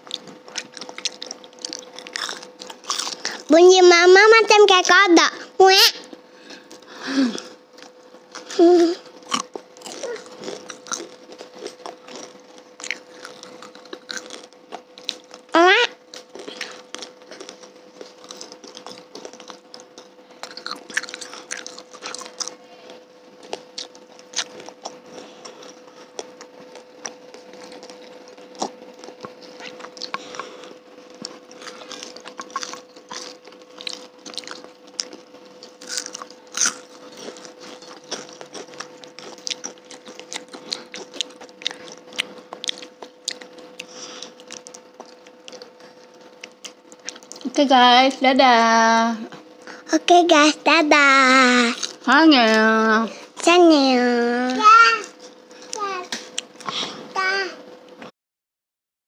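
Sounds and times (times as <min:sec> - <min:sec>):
chewing crunchy food: 0:00.0 - 0:05.1, 0:06.0 - 0:47.6, 0:49.2 - 0:57.0
faint steady hum: 0:00.0 - 0:58.1.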